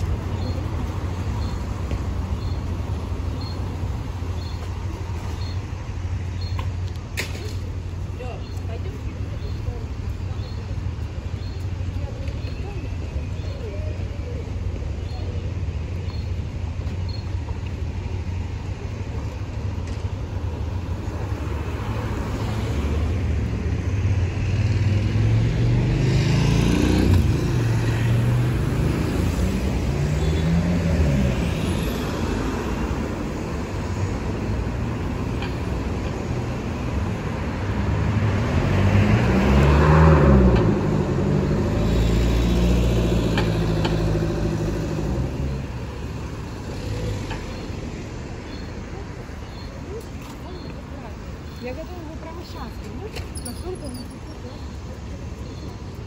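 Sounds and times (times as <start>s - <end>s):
cars passing close by: 0.0s - 56.0s
steady traffic hum: 0.0s - 56.0s.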